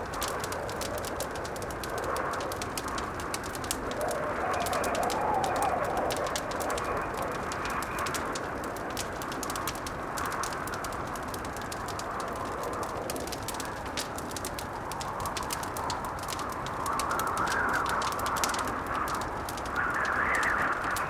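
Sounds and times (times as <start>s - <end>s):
howling blizzard wind: 0.0s - 21.0s
wood fire crackling: 0.0s - 21.0s.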